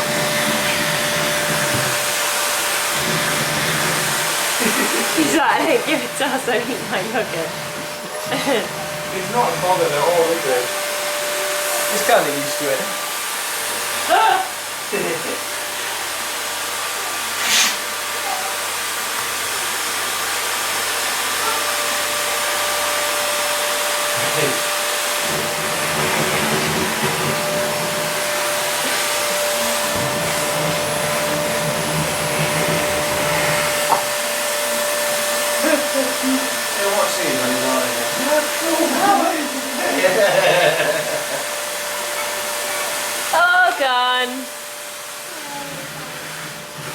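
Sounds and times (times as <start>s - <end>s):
vacuum cleaner whining: 0.0s - 46.9s.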